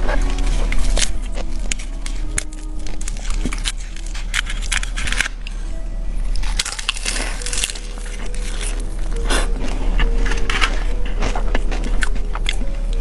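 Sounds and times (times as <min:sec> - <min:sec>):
crunchy chewing with mouth sounds: 0:00.0 - 0:13.0.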